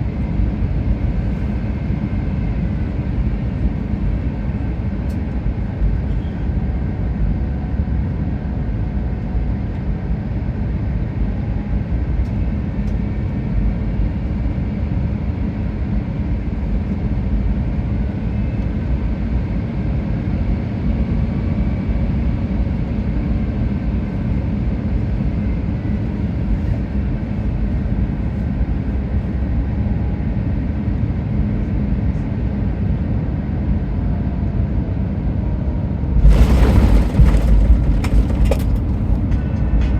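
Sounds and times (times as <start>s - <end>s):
low hum of jet engines: 0.0s - 39.9s.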